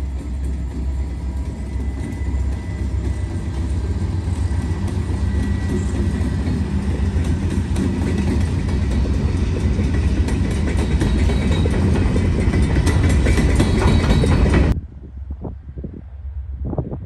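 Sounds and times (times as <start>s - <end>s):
train wheel clatter: 0.0s - 14.8s
diesel locomotives passing: 0.0s - 17.0s
faint wind noise: 0.0s - 17.0s.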